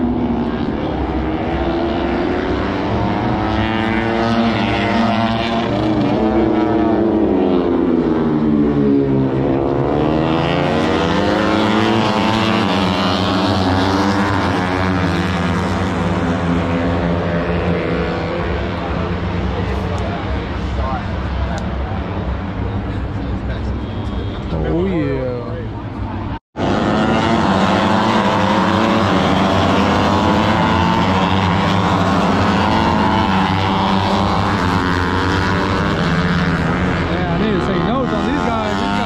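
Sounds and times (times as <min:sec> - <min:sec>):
racing motorcycle engines revving: 0:00.0 - 0:39.0.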